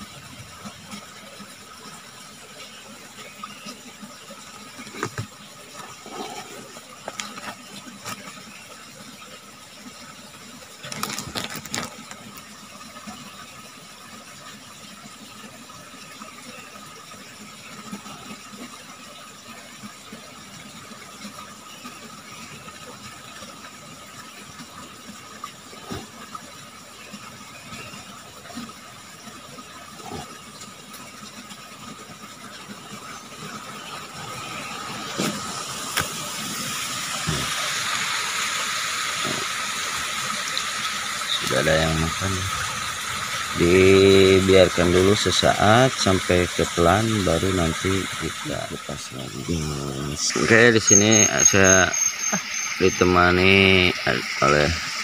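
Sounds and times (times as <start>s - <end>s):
forest stream rushing: 0.0s - 55.0s.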